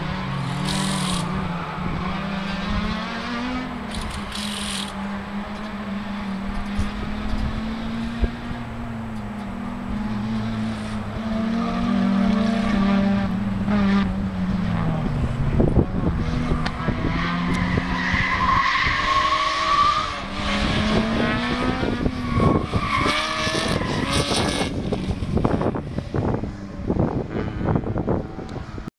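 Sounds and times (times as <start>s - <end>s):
car engine revving: 0.0s - 28.8s.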